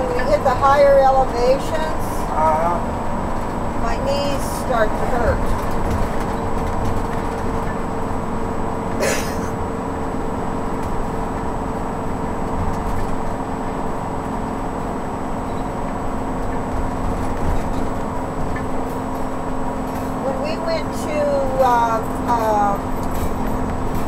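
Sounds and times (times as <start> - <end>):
road noise inside vehicle: 0.0 - 24.0.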